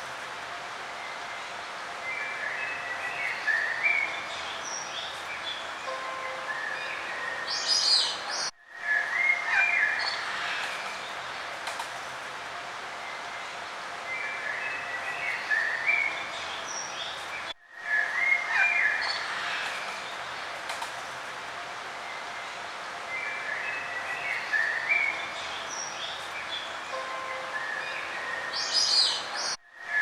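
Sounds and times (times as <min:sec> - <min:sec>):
songbirds chirping: 0:00.0 - 0:30.0
steady outdoor hiss: 0:00.0 - 0:30.0.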